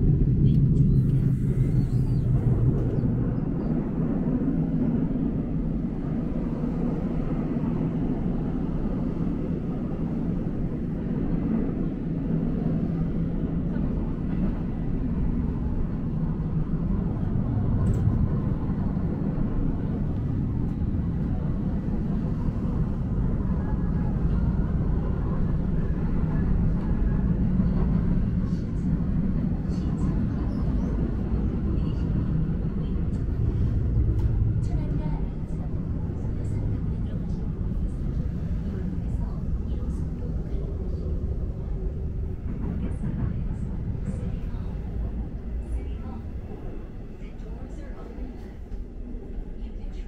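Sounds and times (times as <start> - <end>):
subway train rumble inside carriage: 0.0 - 50.0.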